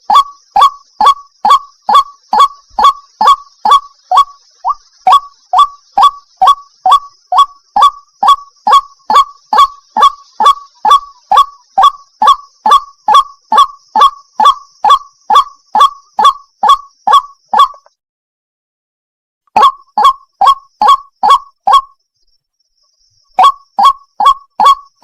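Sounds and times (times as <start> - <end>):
waterhen calling: 0.0 - 17.9, 19.6 - 21.9, 23.4 - 25.0.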